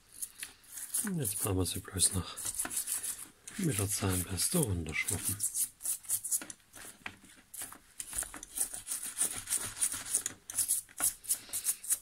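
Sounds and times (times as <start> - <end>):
toothbrush scrubbing metal: 0.0 - 6.5, 8.4 - 12.0.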